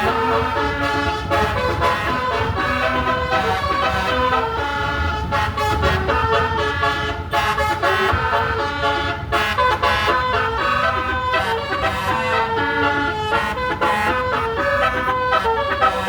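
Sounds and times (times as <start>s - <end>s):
multi-tone air horn playing tune: 0.0s - 16.0s.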